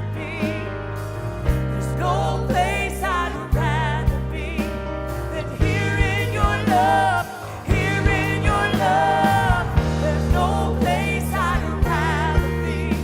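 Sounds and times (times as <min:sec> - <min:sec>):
low bass chords: 0:00.0 - 0:13.0
person singing with vibrato: 0:00.0 - 0:13.0.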